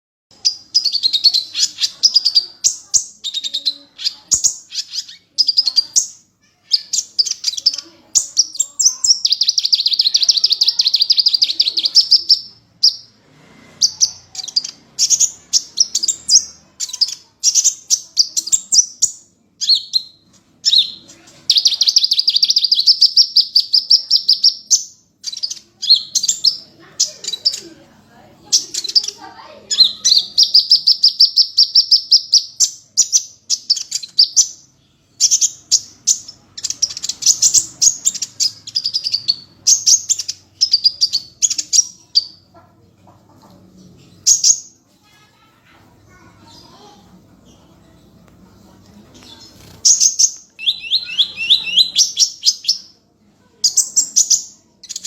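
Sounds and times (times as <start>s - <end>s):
bird high chirps and trills: 0.3s - 55.0s.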